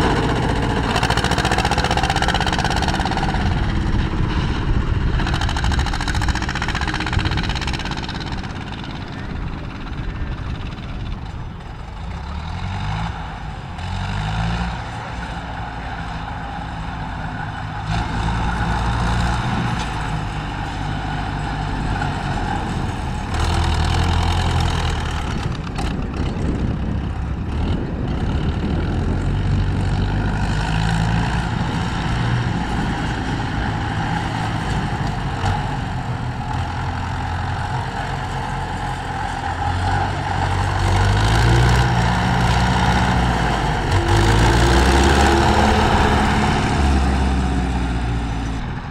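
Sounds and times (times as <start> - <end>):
tractor engines revving: 0.0 - 48.9.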